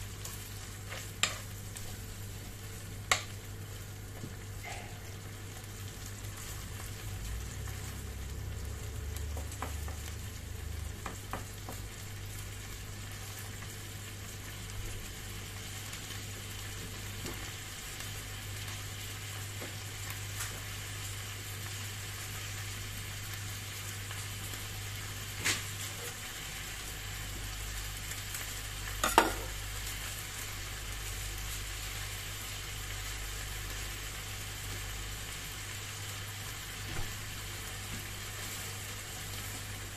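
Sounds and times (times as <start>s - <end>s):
meat sizzling in a frying pan: 0.0s - 39.9s.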